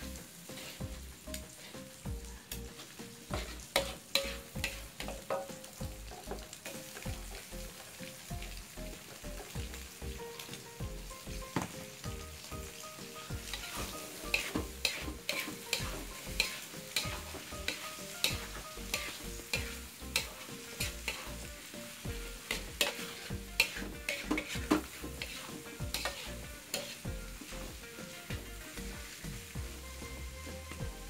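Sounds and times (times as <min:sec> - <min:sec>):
metal spatula scraping a wok: 0:00.0 - 0:07.9, 0:11.4 - 0:30.8
sizzling: 0:00.0 - 0:31.0.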